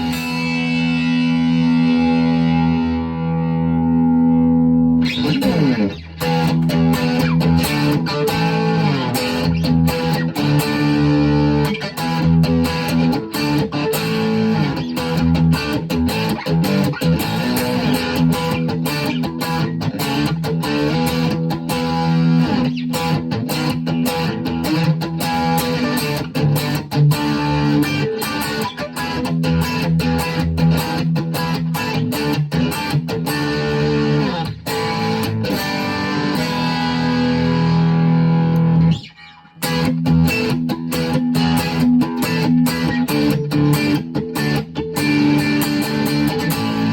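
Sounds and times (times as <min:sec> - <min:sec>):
electric guitar chords and notes: 0:00.0 - 0:46.9.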